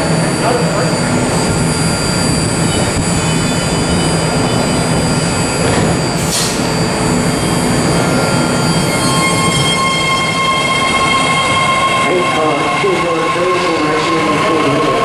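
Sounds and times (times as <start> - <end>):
electric train rumbling: 0.0 - 15.0
electric whine of high tones: 0.0 - 15.0.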